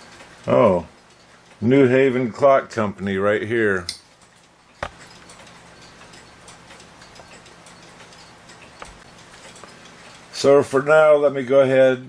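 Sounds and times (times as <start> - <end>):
clock ticking: 0.0 - 3.5, 4.1 - 12.0.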